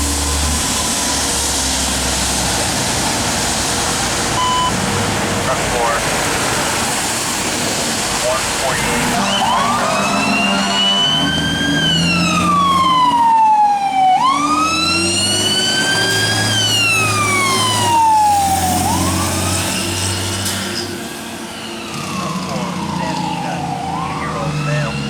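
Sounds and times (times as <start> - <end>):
fire engine siren wailing: 0.0 - 25.0
truck engine: 0.0 - 25.0.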